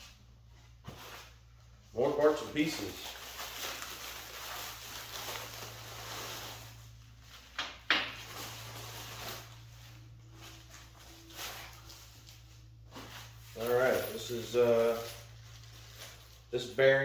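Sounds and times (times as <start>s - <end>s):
packing material rustling: 0.0s - 17.0s.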